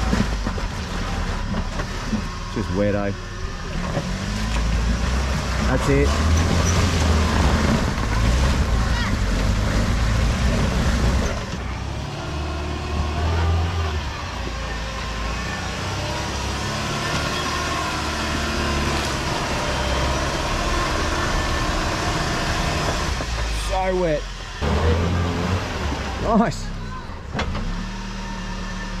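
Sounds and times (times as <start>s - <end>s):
engine revving under load: 0.0s - 29.0s.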